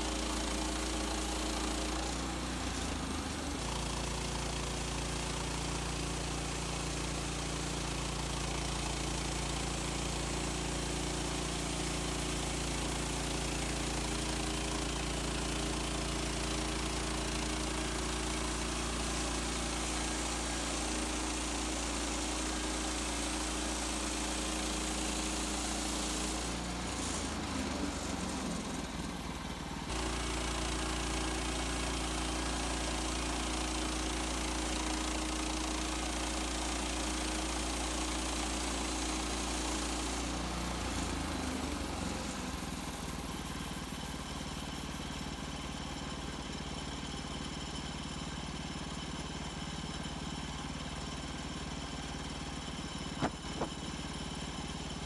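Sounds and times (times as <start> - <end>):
sawmill gas engine running: 0.0 - 55.0.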